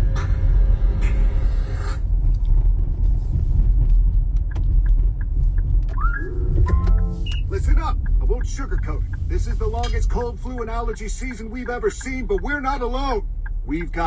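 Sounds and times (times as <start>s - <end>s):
car driving in rain: 2.0s - 14.0s.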